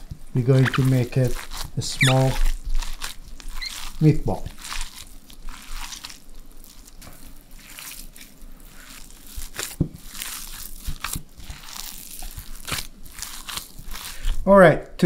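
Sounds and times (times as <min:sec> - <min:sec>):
hands kneading ground meat: 0:00.0 - 0:15.0.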